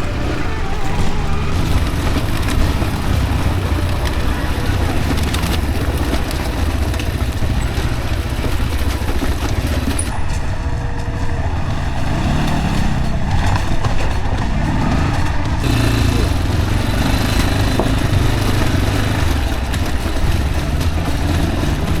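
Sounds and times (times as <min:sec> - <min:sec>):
bike rattling over rocks: 0:00.0 - 0:11.5, 0:12.4 - 0:22.0
dirt bike engine: 0:00.0 - 0:22.0.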